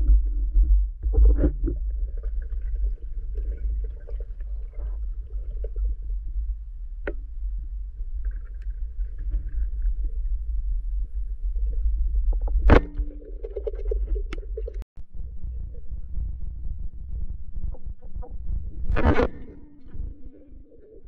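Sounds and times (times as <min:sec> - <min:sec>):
underwater rumble of moving water: 0:00.0 - 0:21.0.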